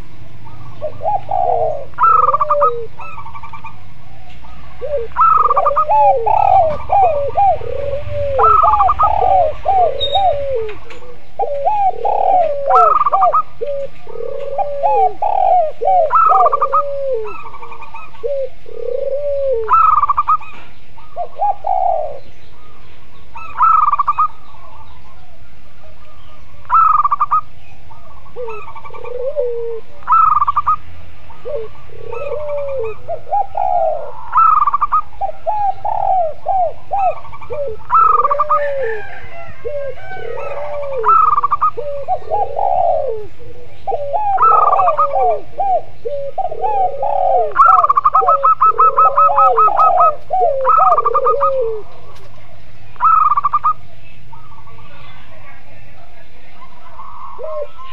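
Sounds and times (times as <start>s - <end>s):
doves cooing: 0.0s - 57.9s.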